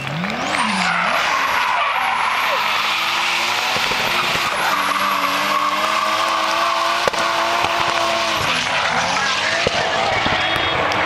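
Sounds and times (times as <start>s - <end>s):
car engine at high revs: 0.0s - 11.0s
tyres squealing: 0.4s - 10.8s.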